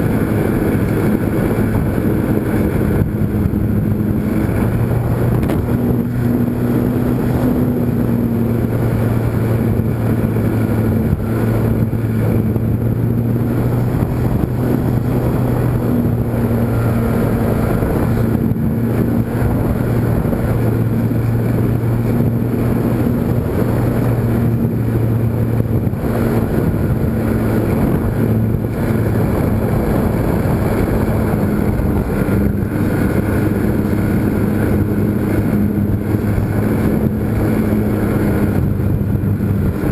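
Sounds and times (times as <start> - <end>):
model airplane motor humming: 0.0 - 39.9
wind rushing over microphone: 0.0 - 39.9.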